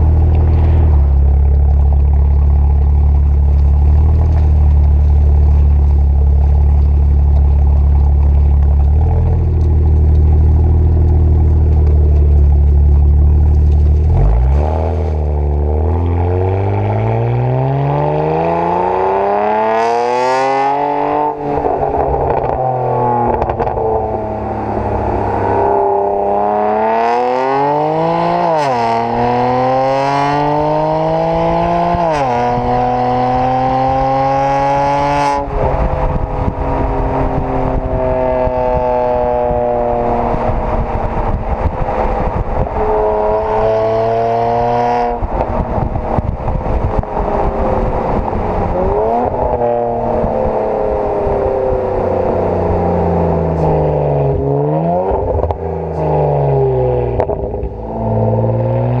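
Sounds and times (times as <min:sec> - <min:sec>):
car engine revving: 0:00.0 - 0:59.0
exhaust crackles and pops: 0:00.0 - 0:59.0.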